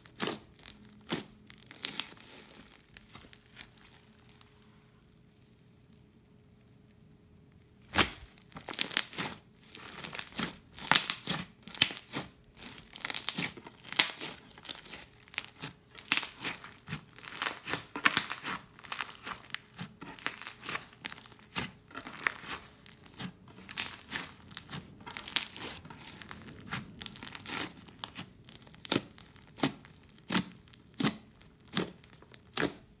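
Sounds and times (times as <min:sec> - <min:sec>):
crunchy slime crackling: 0:00.0 - 0:33.0.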